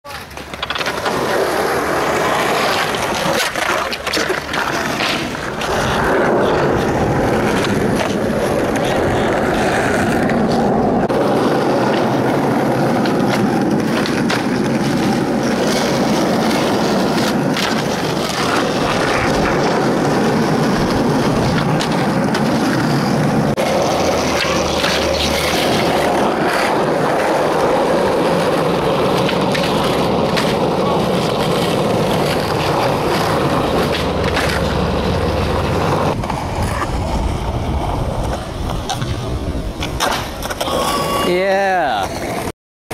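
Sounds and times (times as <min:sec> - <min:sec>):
skateboard wheels rolling on asphalt: 0:00.0 - 0:42.5
skateboard tail popping and landing: 0:00.1 - 0:40.7.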